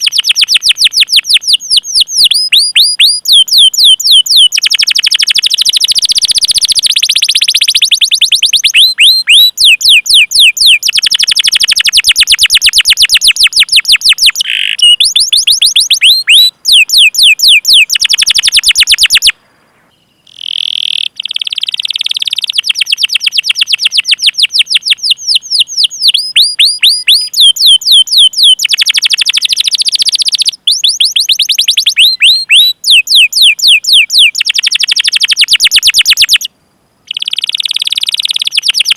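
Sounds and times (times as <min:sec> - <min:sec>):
canary singing chirp runs: 0:00.0 - 0:19.3, 0:20.1 - 0:34.6.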